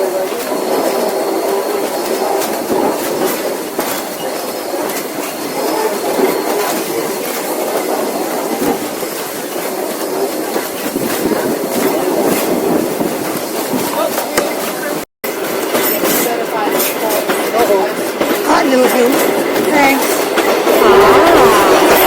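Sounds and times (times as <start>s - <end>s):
train carriages rumbling: 0.0s - 22.0s
wheels clacking over rail joints: 0.0s - 22.0s.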